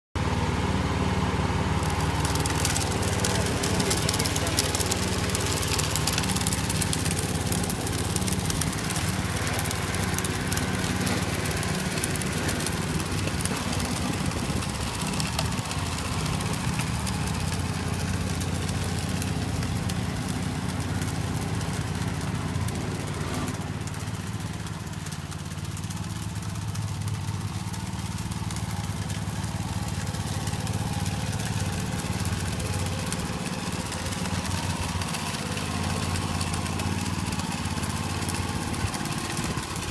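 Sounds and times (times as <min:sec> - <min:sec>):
small engine running: 0:00.2 - 0:39.9.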